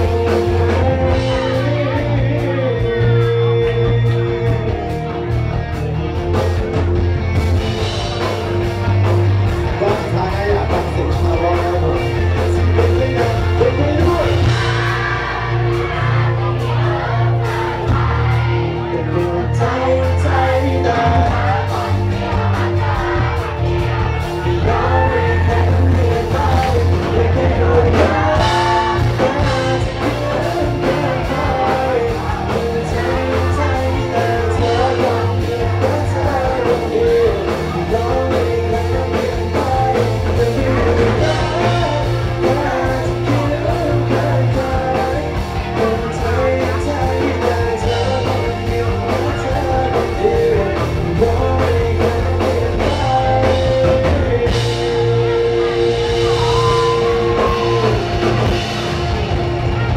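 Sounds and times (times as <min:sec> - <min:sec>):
person singing: 0:00.0 - 0:05.3, 0:08.1 - 0:58.8
heavy bass: 0:00.0 - 0:59.9
live band music: 0:00.0 - 0:59.9
drum beat: 0:06.3 - 0:18.8, 0:20.2 - 0:55.0, 0:55.8 - 0:59.9.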